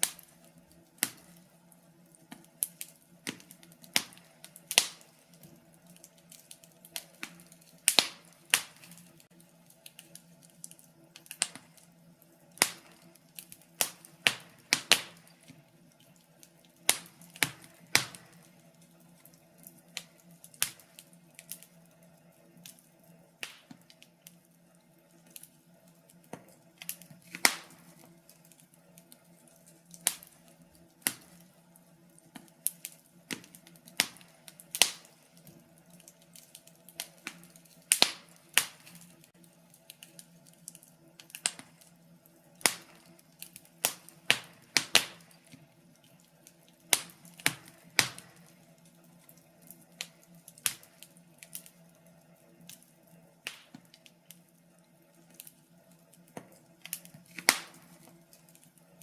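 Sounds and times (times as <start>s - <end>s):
faint steady hum: 0.0s - 59.0s
fire crackling: 0.0s - 59.0s
sharp pops and snaps of fire: 0.0s - 59.0s.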